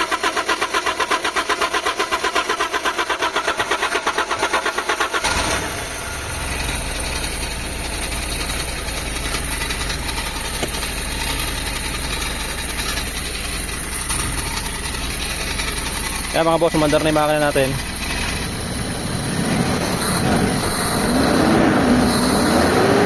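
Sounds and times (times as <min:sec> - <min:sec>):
van engine cranking and idling: 0:00.0 - 0:23.0.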